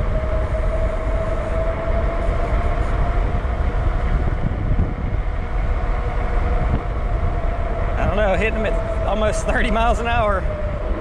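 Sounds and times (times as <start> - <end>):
wind rushing on microphone: 0.0 - 11.0.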